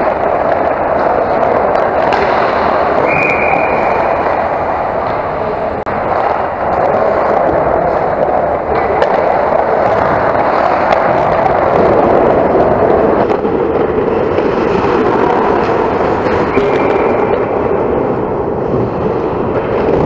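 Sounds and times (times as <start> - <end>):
ice hockey play rumble: 0.0 - 20.0.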